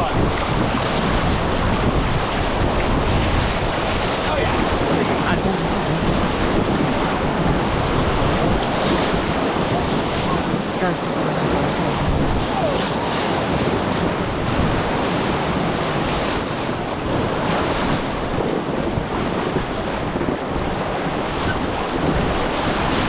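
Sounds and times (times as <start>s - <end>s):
whitewater rushing: 0.0s - 23.0s
wind buffeting microphone: 0.0s - 23.0s.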